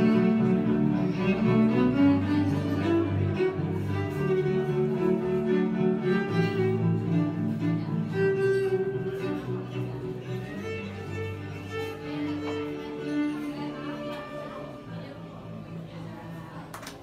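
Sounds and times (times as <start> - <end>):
electric violin melody: 0.0 - 16.0.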